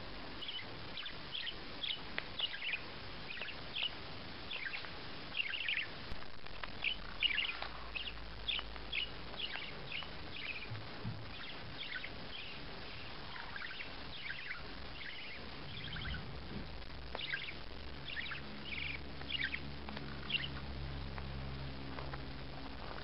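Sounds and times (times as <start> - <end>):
parrot chirping: 0.4 - 21.6.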